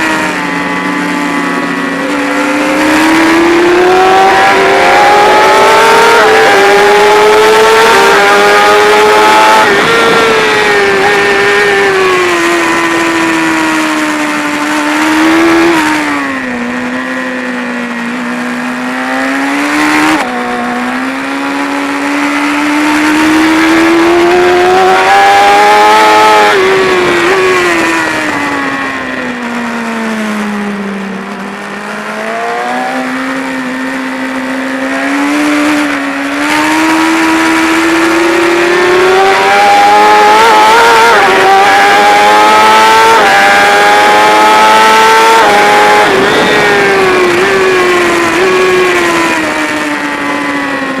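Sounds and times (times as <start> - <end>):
motorcycle engine revving: 0.0 - 51.0
wind noise: 0.0 - 51.0.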